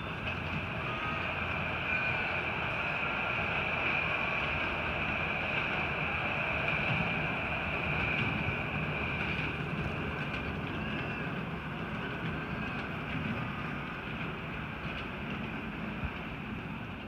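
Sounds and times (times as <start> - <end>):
steam hissing: 0.0 - 14.6
steam locomotive rumble: 0.0 - 17.0.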